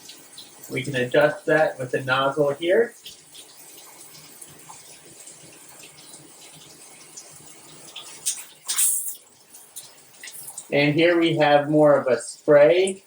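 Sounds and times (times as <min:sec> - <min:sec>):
shower spray gushes: 0:00.0 - 0:13.0
shower water hissing: 0:00.0 - 0:13.0.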